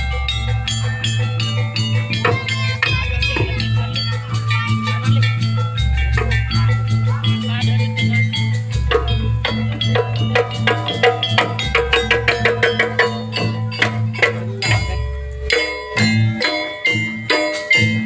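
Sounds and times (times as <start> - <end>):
drum beats: 0.0 - 18.0.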